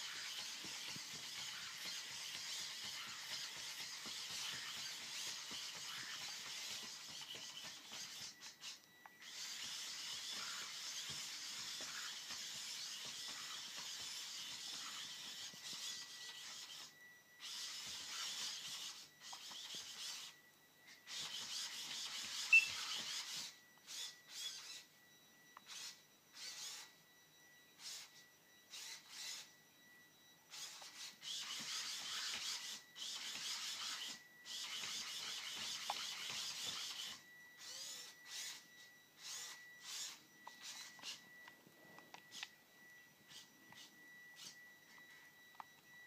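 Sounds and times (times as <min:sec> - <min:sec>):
robot servos whirring: 0:00.0 - 0:20.4, 0:21.0 - 0:24.9, 0:25.6 - 0:26.9, 0:27.8 - 0:29.5, 0:30.5 - 0:38.6, 0:39.2 - 0:41.2
faint steady high tone: 0:00.0 - 0:46.0.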